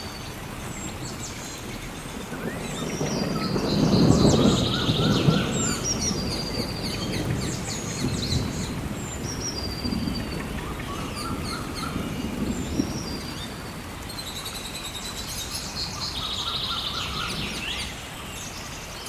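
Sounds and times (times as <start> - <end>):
low roll of thunder: 0.0 - 18.5
steady hiss of rain: 0.0 - 19.0
birds chirping and whistling: 2.4 - 18.0.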